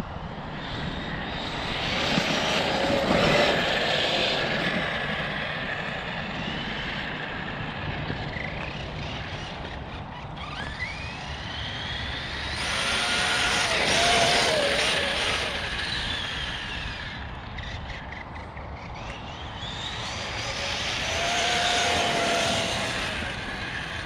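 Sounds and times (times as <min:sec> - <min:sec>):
steady rushing noise: 0:00.0 - 0:10.2, 0:10.8 - 0:24.0
electric motor whining: 0:01.0 - 0:18.2, 0:19.0 - 0:24.0.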